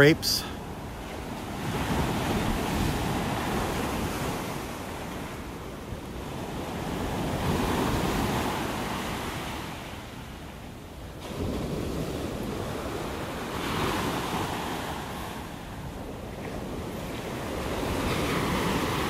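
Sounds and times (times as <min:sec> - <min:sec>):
heavy surf breaking on beach: 0:00.0 - 0:19.0.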